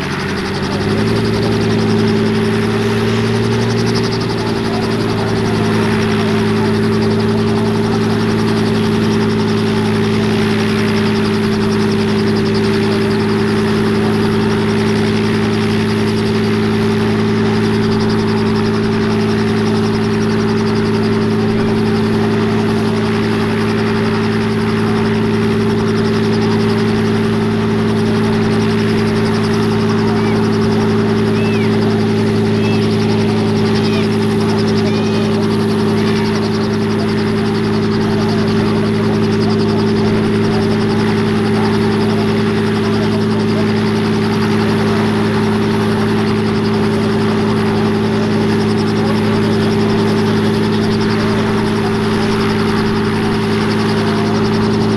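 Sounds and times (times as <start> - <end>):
helicopter engine and rotor hum: 0.0 - 54.9.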